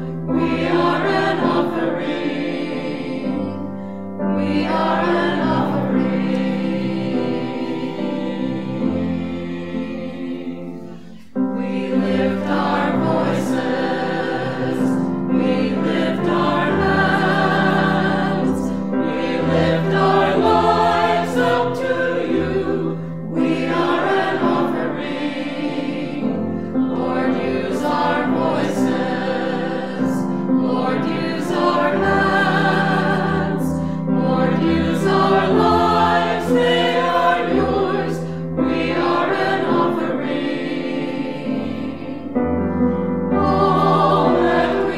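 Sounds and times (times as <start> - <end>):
choir singing: 0.0 - 44.9.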